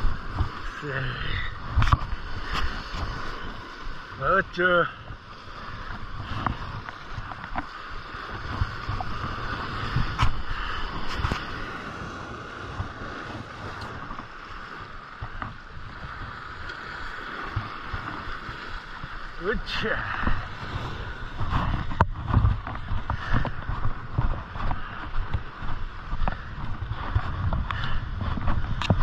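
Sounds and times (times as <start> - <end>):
waves washing over rocks: 0.0 - 29.0
wind buffeting microphone: 0.0 - 29.0.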